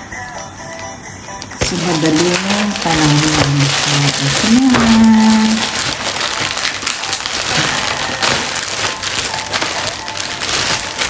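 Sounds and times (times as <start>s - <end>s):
plastic packaging crinkling and tearing: 1.5s - 11.0s.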